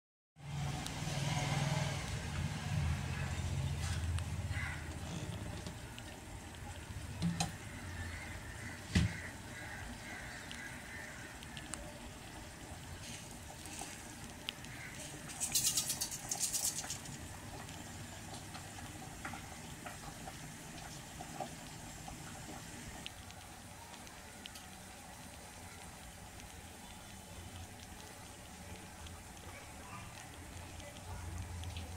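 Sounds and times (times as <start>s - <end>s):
seeds crackling in hot oil: 0.4s - 31.9s
small pops of frying seeds: 3.9s - 31.9s.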